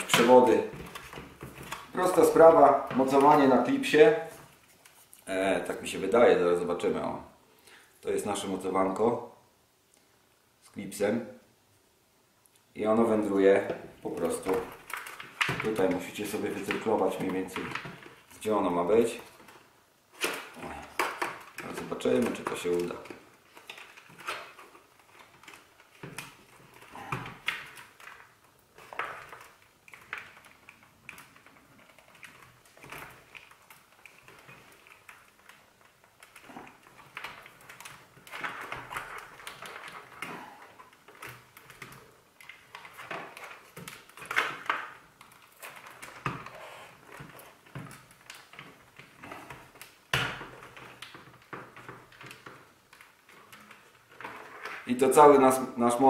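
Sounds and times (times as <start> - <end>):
plastic scraping and rustling: 0.0 - 6.3, 12.9 - 56.0.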